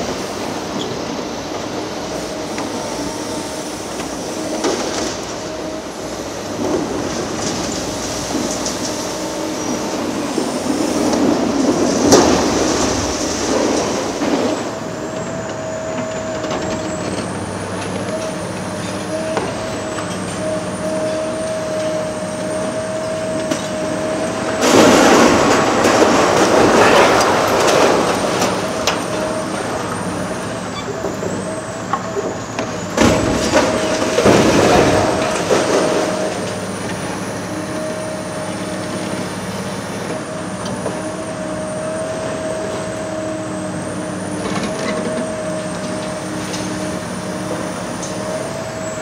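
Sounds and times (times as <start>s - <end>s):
excavator diesel engine whining: 0.0s - 49.0s.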